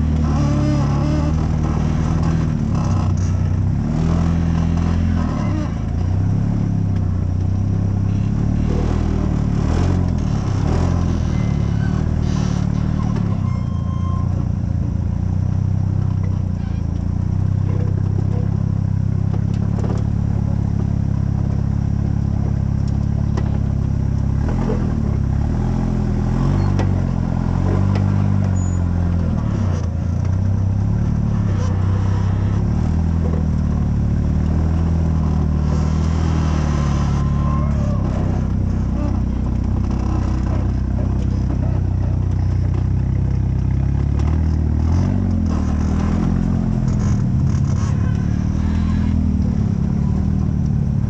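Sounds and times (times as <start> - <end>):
buggy engine rumbling: 0.0 - 51.0.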